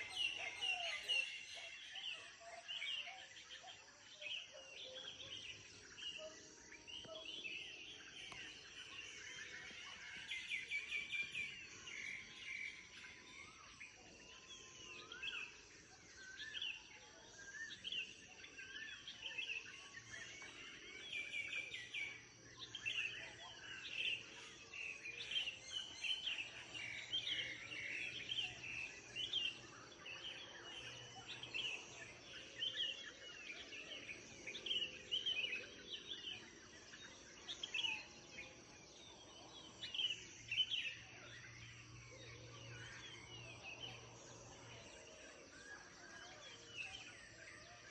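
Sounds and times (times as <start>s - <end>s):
songbirds chirping and whistling: 0.0s - 47.9s.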